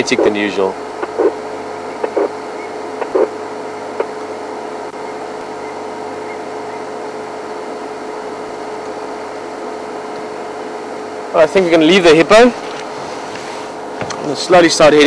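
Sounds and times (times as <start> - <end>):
faint constant tone: 0.0 - 15.0
vehicle engine idling: 0.0 - 15.0.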